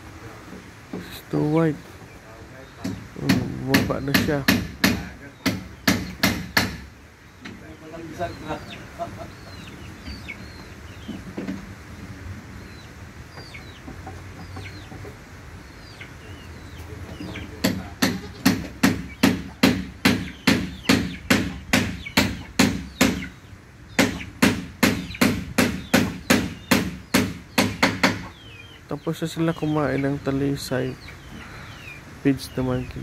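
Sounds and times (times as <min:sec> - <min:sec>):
chicks peeping: 0:00.2 - 0:33.0.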